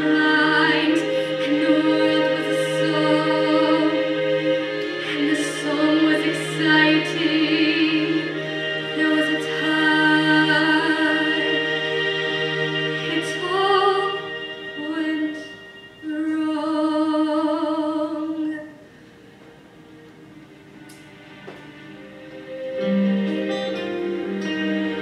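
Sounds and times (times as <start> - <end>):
sustained instrumental accompaniment: 0.0 - 17.1, 18.9 - 25.0.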